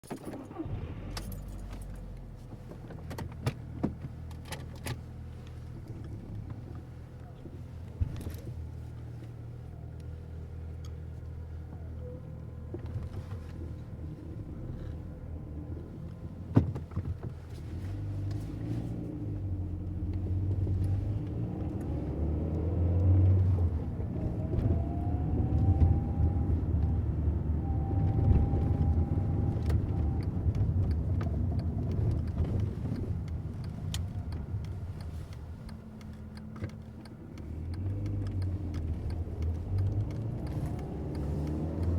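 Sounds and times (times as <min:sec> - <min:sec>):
car engine accelerating: 0:00.4 - 0:41.9.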